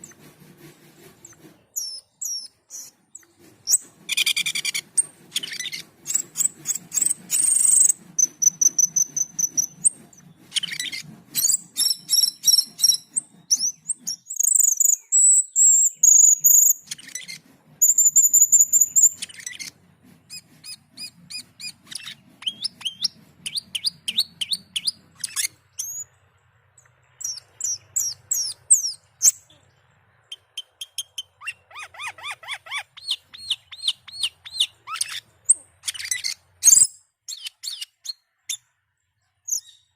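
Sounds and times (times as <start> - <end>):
high bird whistles: 1.2 - 26.1, 27.2 - 29.5, 30.3 - 38.6
bird singing with chattering notes: 1.2 - 39.9.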